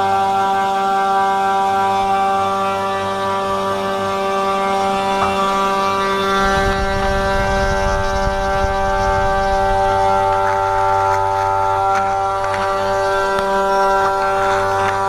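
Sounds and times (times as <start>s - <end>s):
router spindle whining: 0.0s - 15.0s.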